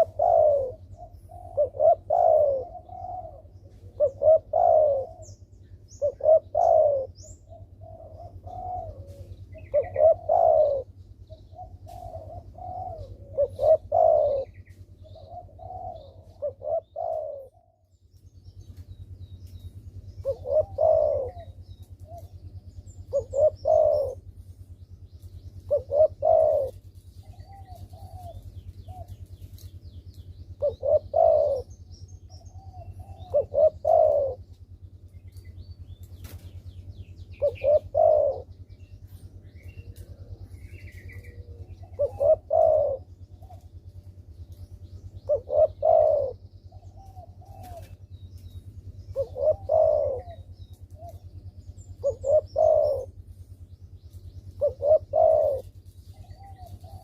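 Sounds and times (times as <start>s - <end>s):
dove cooing: 0.0s - 57.0s
small birds chirping: 0.0s - 57.0s.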